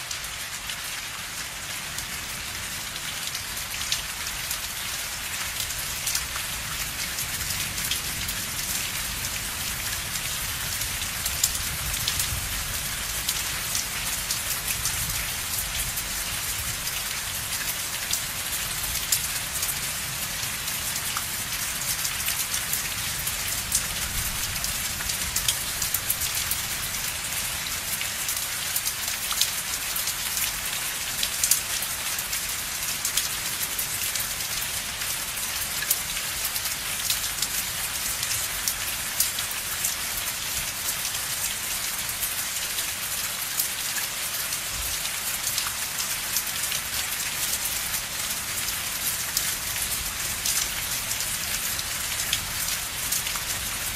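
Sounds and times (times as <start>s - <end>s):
rain drops pattering: 0.0s - 53.9s.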